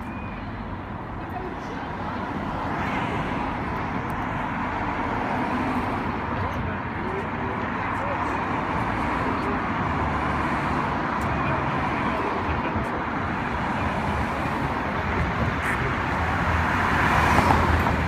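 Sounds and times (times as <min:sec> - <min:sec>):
motorcycle engines: 0:00.0 - 0:18.0
tyres on asphalt: 0:00.0 - 0:18.0
vehicles driving past: 0:00.0 - 0:18.0.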